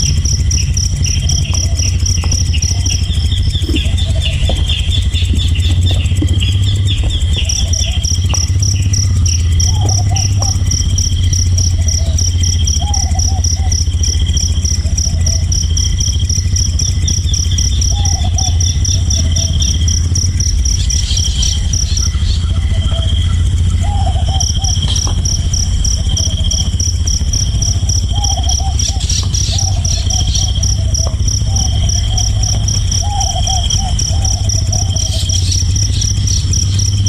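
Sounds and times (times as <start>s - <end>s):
insect chirps: 0.0s - 37.0s
insect high trill: 0.0s - 37.0s
steady low hum: 0.0s - 37.0s.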